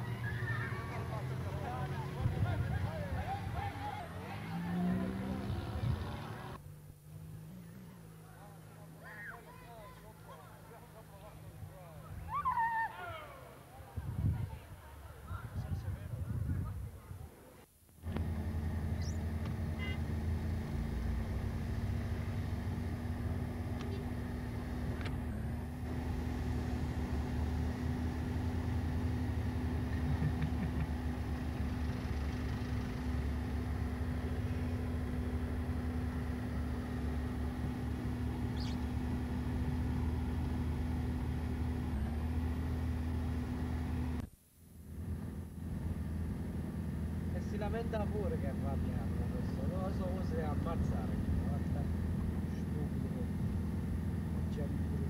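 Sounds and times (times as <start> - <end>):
vehicle engine droning: 0.0 - 16.7, 18.0 - 55.0.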